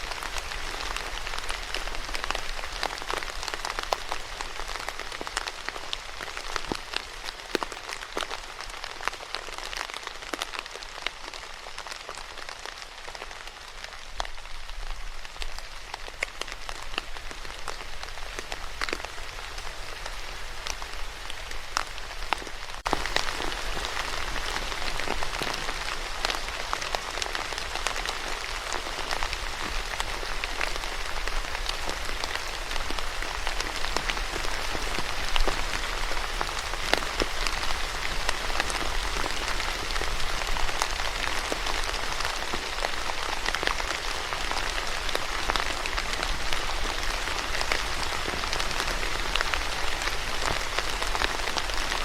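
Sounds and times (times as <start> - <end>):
raindrops striking a surface: 0.0 - 52.0
steady rainfall hiss: 0.0 - 52.0.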